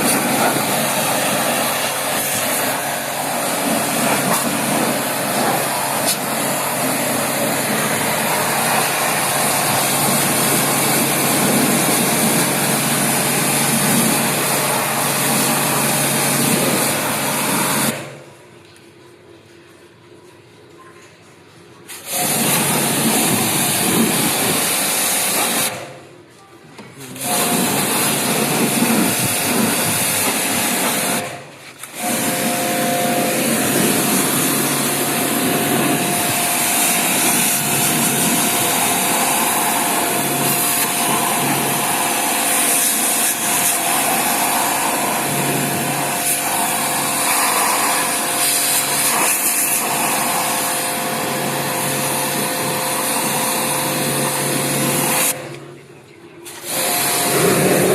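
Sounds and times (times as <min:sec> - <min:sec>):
hissing water jet: 0:00.0 - 0:18.0, 0:27.2 - 0:55.4, 0:56.5 - 0:57.9
pressure washer pump running: 0:00.0 - 0:18.3, 0:21.9 - 0:26.0, 0:27.2 - 0:55.7, 0:56.4 - 0:57.9.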